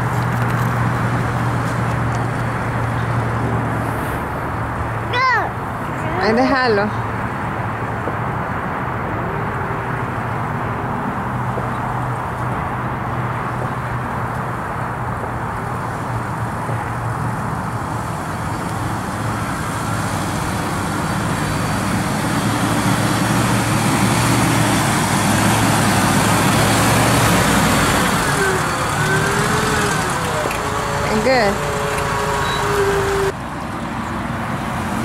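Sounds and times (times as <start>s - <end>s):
vehicle engine running at low speed: 0.0s - 35.0s.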